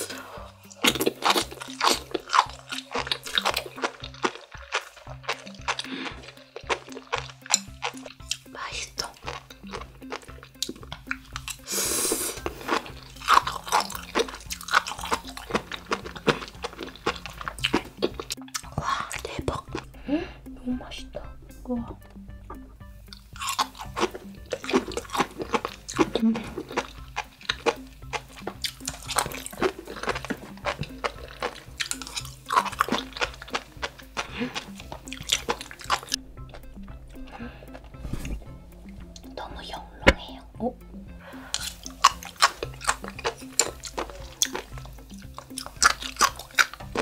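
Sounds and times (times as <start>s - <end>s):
close-miked crunchy chewing: 0.0s - 19.9s, 23.1s - 40.5s, 41.2s - 47.0s
soft background music: 0.0s - 47.0s.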